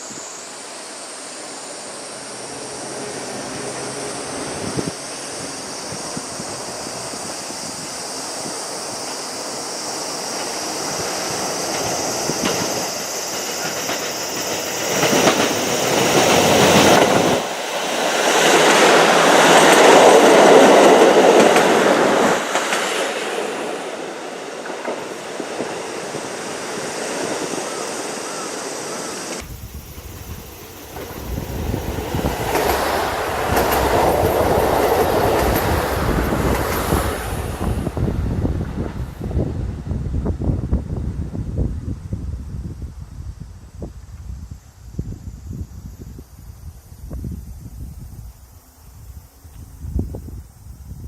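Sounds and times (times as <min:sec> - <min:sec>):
diesel train passing: 0:00.0 - 0:42.4.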